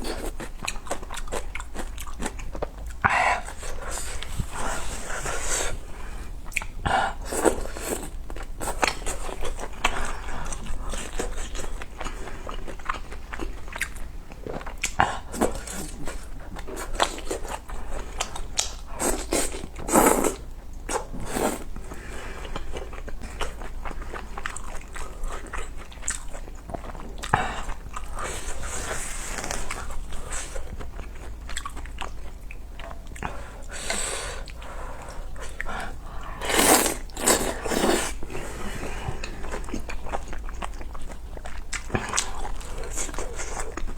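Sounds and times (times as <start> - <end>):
chewing and biting food: 0.0 - 4.6, 6.4 - 21.7, 22.5 - 33.4, 34.5 - 43.9.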